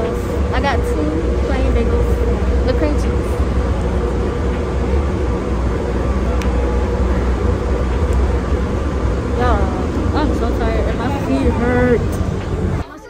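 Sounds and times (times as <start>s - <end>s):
faint steady hum: 0.0s - 13.0s
train car rumble: 0.0s - 13.0s.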